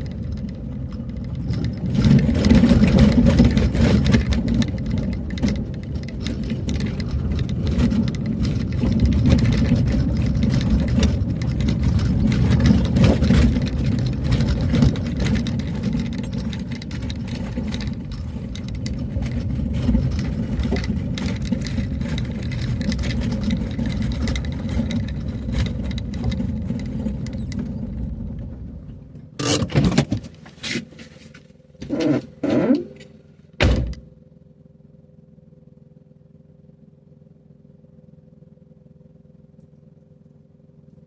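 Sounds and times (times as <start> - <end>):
vehicle driving on rough road: 0.0 - 41.0.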